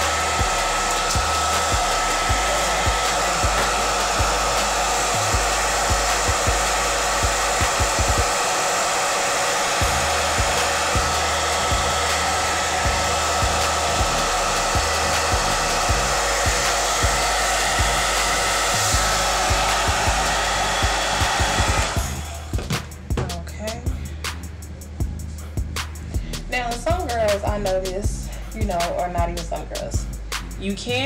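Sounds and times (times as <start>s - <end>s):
hair dryer blowing: 0.0s - 23.8s, 28.5s - 30.1s.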